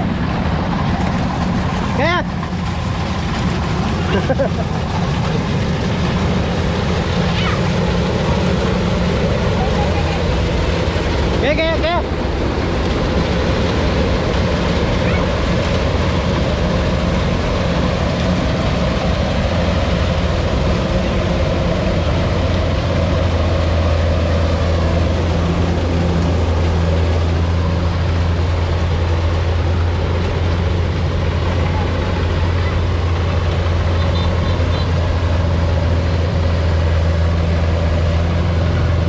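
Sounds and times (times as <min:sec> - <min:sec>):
combine harvester diesel engine: 0:00.0 - 0:39.0.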